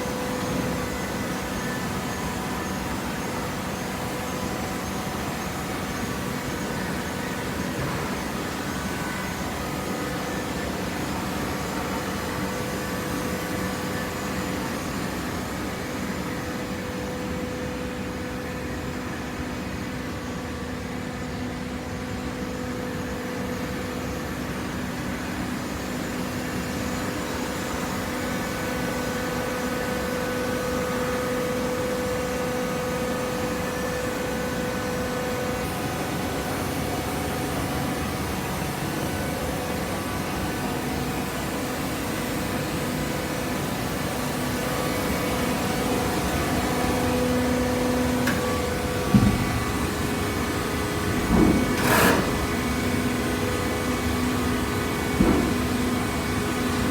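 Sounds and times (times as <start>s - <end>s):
industrial machinery drone: 0.0s - 56.9s.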